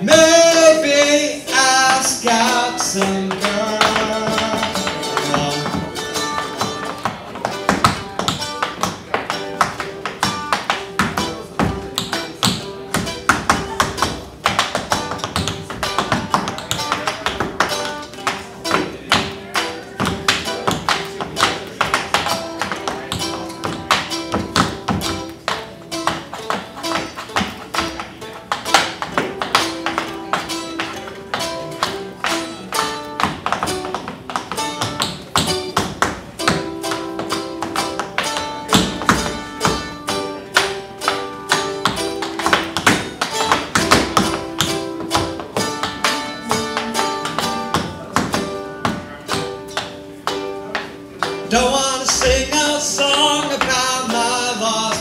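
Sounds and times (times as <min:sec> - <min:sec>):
guitar-led instrumental music: 0:00.0 - 0:55.0
tap shoes clicking on floor: 0:01.6 - 0:55.0.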